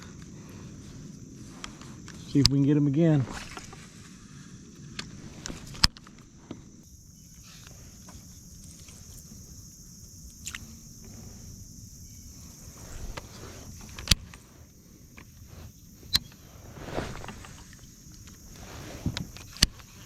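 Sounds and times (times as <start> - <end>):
insects shrilling: 0.0 - 20.0.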